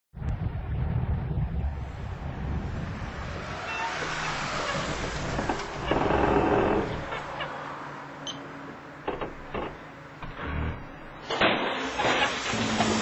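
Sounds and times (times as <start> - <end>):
car engine rumbling: 0.3 - 13.0
rushing noise: 0.5 - 8.0, 9.1 - 13.0.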